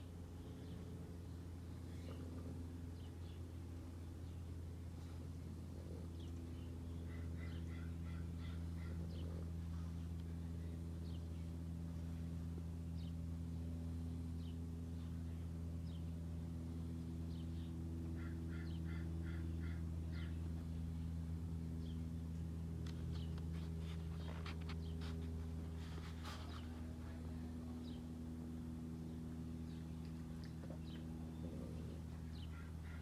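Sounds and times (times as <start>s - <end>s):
small birds chirping: 0.0s - 12.2s, 17.1s - 28.2s, 29.0s - 33.0s
steady low hum: 0.0s - 33.0s.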